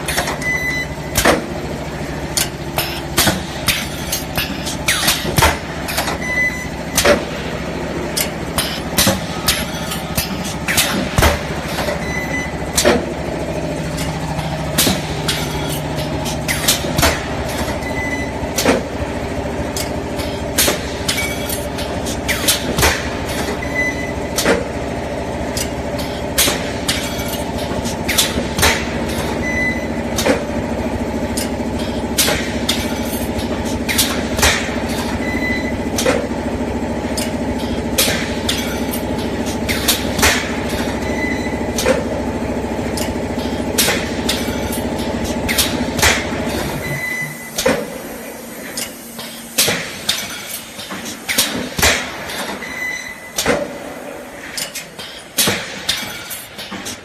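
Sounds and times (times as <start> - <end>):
machine motor hum: 0.0 - 57.0.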